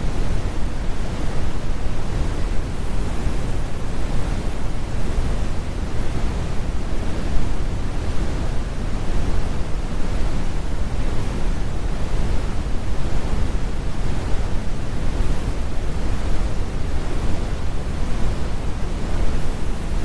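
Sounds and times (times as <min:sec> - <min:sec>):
brown noise: 0:00.0 - 0:20.0.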